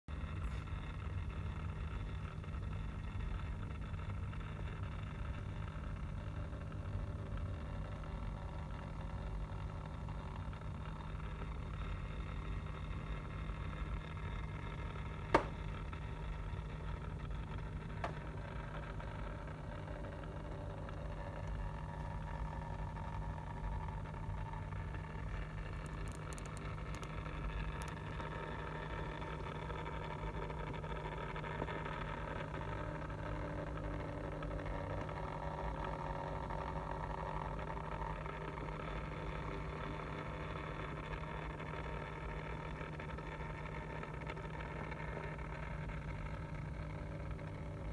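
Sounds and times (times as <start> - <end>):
low mechanical hum: 0.1 - 47.9.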